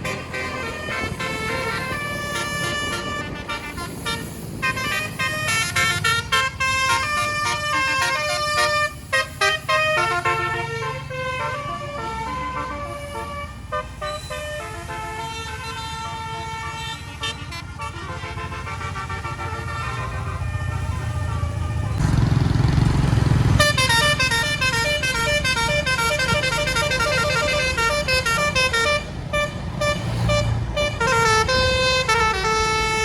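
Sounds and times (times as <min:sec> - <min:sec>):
bus melody horn playing tune: 0:00.0 - 0:33.0.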